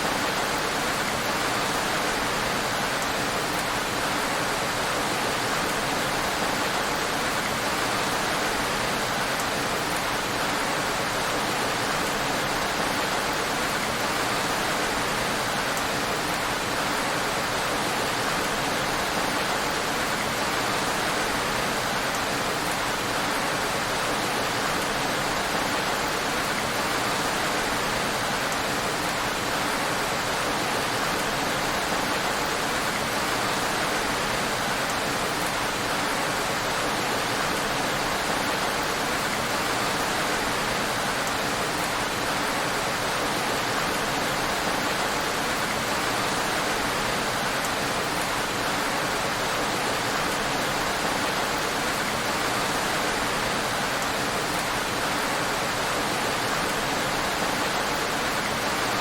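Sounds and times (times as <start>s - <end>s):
heavy rain on a road: 0.0s - 59.0s.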